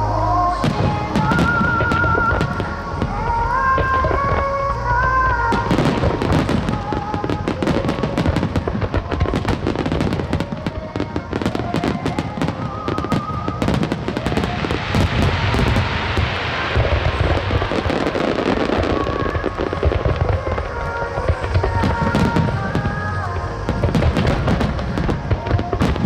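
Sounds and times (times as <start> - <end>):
fireworks bursting and crackling: 0.0 - 26.0
sung ballad playing: 0.0 - 26.0.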